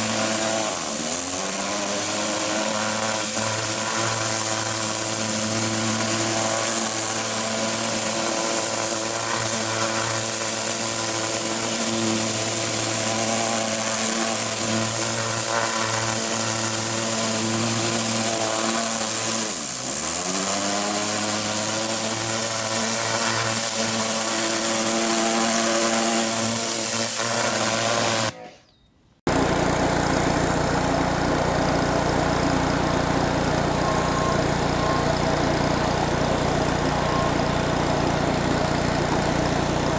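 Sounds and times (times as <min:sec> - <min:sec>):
high-pressure spray hissing: 0:00.0 - 0:28.4, 0:32.6 - 0:39.9
pressure washer engine running: 0:00.0 - 0:28.4, 0:29.3 - 0:39.9.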